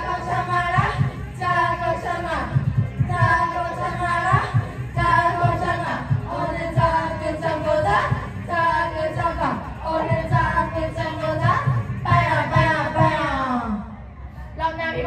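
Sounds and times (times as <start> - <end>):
backing track with beat: 0.0 - 13.4
person singing karaoke: 0.0 - 15.0.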